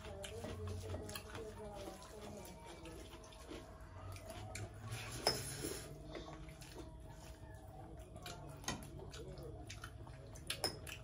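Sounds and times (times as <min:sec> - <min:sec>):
wet squishing of food: 0:00.0 - 0:11.0.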